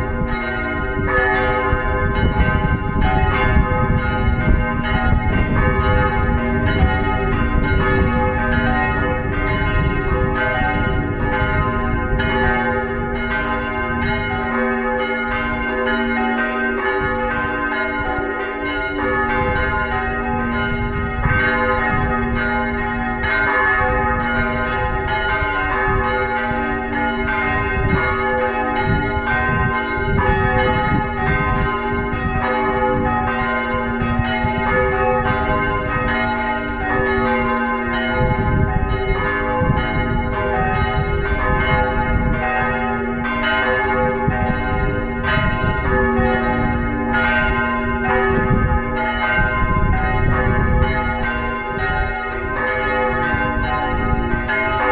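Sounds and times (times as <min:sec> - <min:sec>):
church bells ringing: 0:00.0 - 0:54.9.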